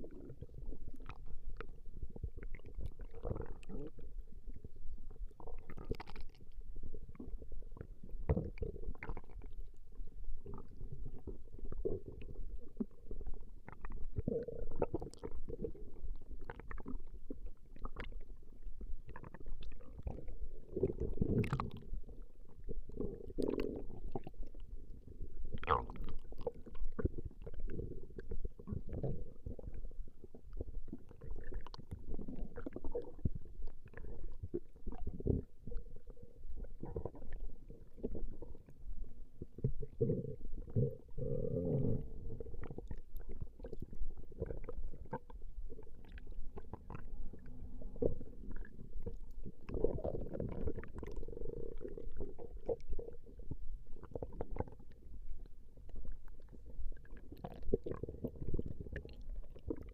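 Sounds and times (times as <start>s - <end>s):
stomach growling: 0.0s - 59.9s.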